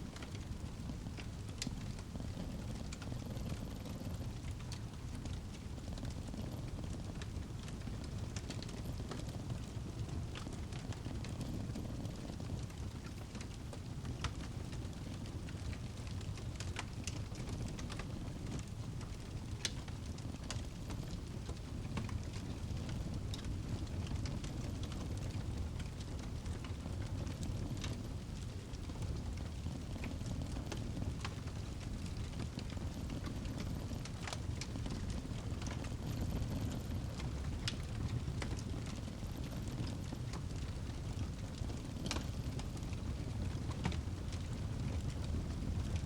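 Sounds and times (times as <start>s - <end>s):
fireplace crackling: 0.0s - 46.0s.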